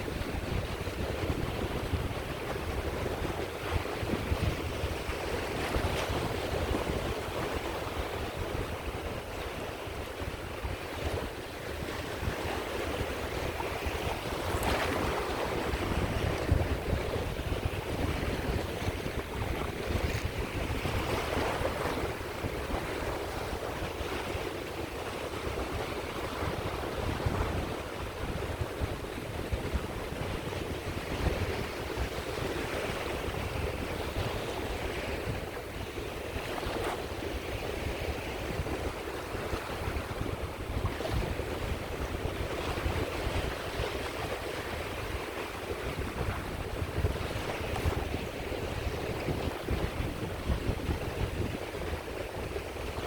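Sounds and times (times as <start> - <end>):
waves washing onto shore: 0.0 - 53.0
wind buffeting microphone: 0.0 - 53.0.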